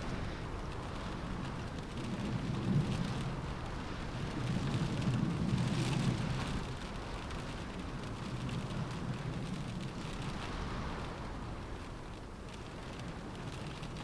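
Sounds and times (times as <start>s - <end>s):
rain on a window: 0.0s - 14.0s
wind gusts rumbling: 0.0s - 14.0s.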